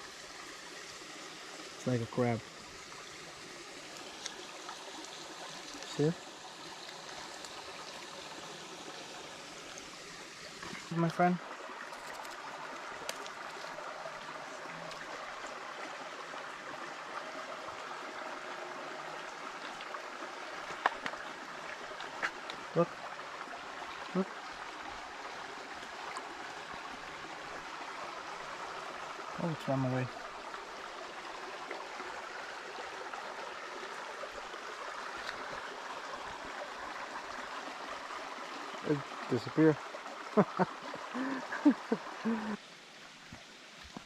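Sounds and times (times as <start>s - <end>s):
forest stream running: 0.0s - 44.0s.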